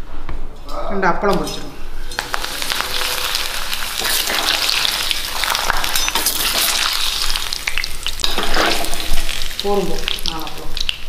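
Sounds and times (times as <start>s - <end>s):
papad sizzling in hot oil: 1.9s - 11.0s.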